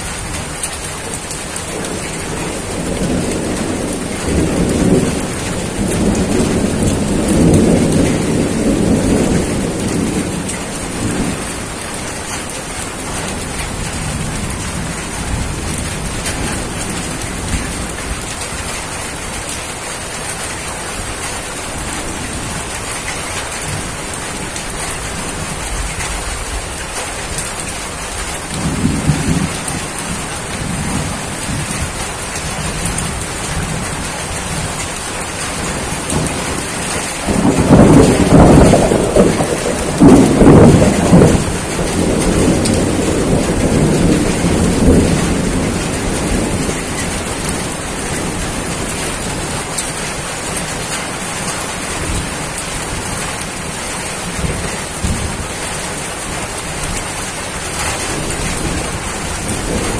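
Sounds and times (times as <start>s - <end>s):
low rolling thunder: 0.0s - 19.6s, 20.3s - 59.9s
steady rain falling: 0.0s - 59.9s.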